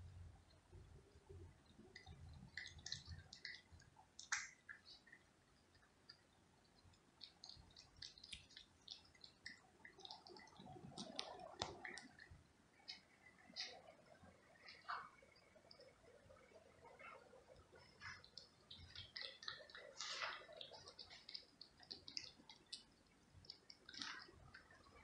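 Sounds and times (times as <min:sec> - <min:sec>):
cat chewing wet food: 0:00.7 - 0:25.0.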